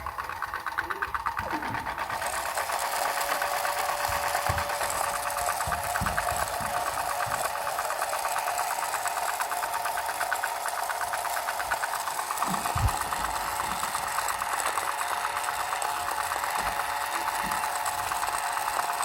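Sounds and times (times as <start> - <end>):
small electric motor whirring: 0.0 - 19.0.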